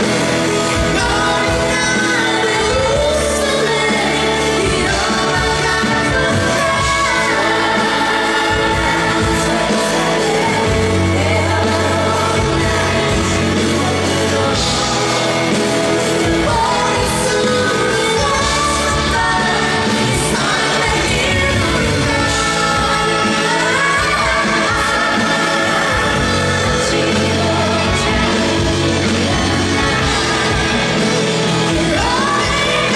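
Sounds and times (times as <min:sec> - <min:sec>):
live band playing: 0:00.0 - 0:32.9
woman singing: 0:00.0 - 0:32.9.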